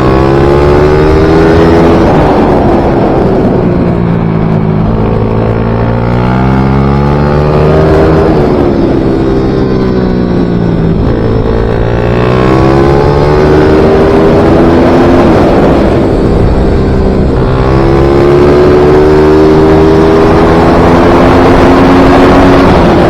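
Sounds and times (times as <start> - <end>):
racing motorcycle engine high revs: 0.0 - 23.0.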